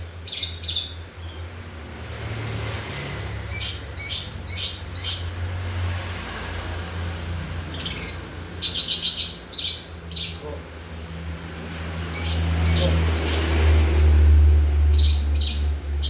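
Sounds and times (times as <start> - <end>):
bird chirping and rattling: 0.3 - 16.0.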